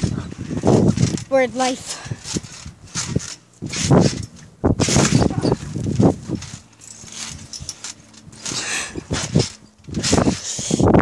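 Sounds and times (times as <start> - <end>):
trampoline landing thumps: 0.0 - 10.5.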